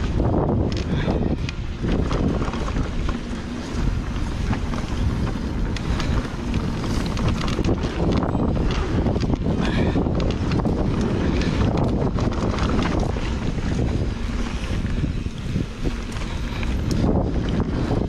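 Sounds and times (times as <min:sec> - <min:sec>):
bike chain and frame rattling: 0:00.0 - 0:18.0
tyres rolling on dirt trail: 0:00.0 - 0:18.0
wind buffeting microphone: 0:00.0 - 0:18.0.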